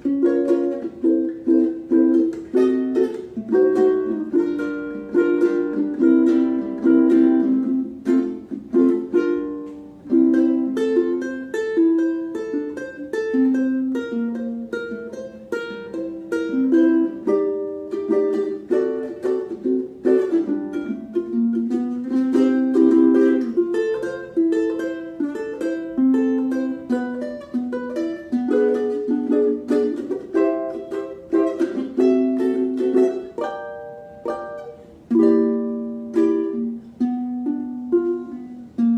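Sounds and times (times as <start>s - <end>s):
ukulele played fingerstyle: 0.0s - 38.9s.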